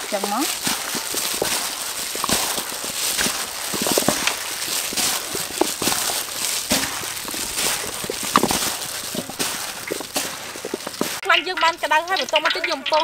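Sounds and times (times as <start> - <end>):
plastic gloves crinkling: 0.0 - 12.2.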